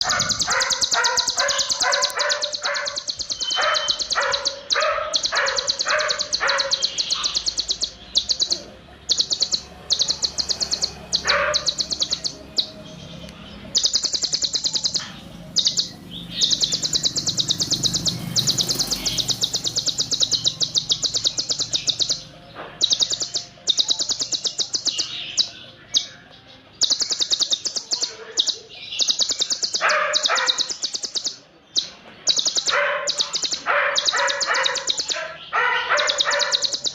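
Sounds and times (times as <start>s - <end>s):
sunbird rapid high song: 0.0s - 36.9s.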